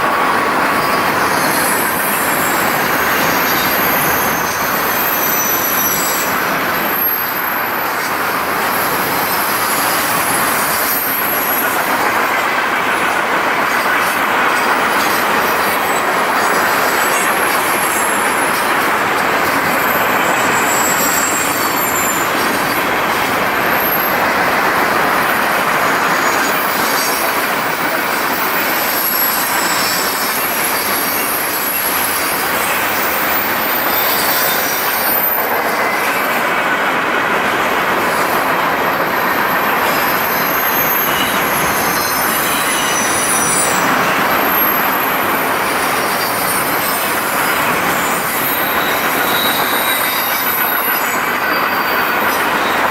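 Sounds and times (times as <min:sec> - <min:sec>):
train wheels rumbling on rail: 0:00.0 - 0:52.9
high-pitched wheel squeals: 0:00.4 - 0:36.7, 0:38.0 - 0:52.9.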